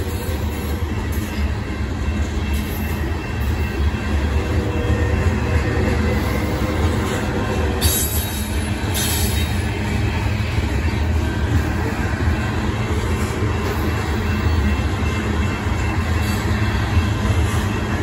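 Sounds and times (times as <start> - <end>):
steel wheels rumbling on rail: 0.0 - 18.0.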